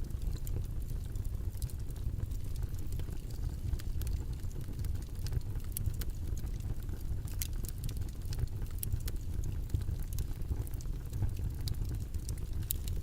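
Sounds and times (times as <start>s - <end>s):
sharp crackles and clicks: 0.0s - 13.0s.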